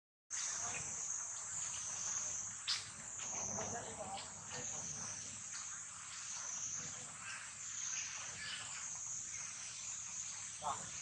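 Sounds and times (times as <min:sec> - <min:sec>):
faint chirps: 0:00.3 - 0:11.0
high-pitched insect drone: 0:00.4 - 0:11.0.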